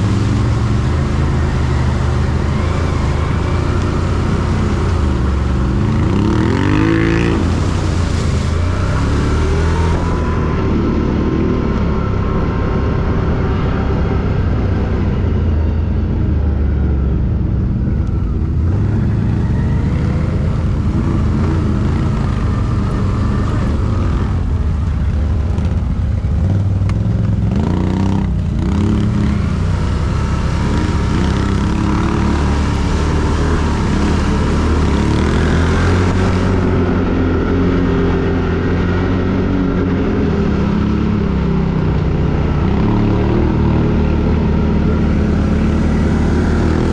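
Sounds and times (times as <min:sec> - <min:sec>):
atv engine running: 0:00.0 - 0:46.9.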